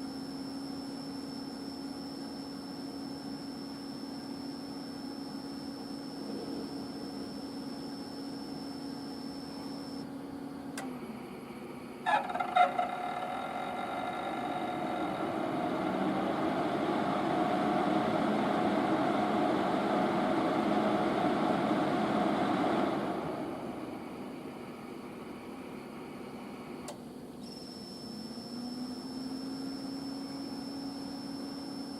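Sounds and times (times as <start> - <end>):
fan whirring: 0.0 - 27.5
electrical hum with high whine: 0.0 - 31.9.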